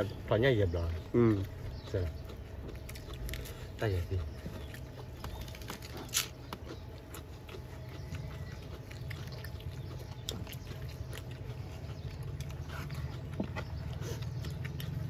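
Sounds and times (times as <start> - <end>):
people chewing with mouth clicks: 0.0 - 15.0.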